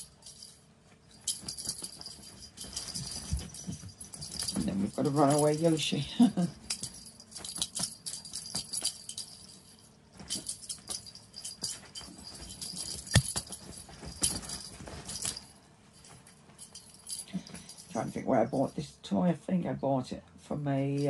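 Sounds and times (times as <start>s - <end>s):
ball toy jingling and rattling: 0.0s - 18.8s.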